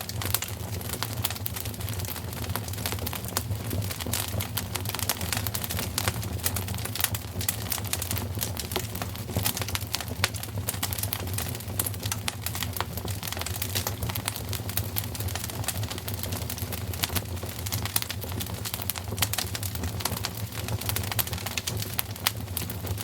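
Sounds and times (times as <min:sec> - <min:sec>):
fire low rumble: 0:00.0 - 0:23.0
wood fire crackling: 0:00.0 - 0:23.0.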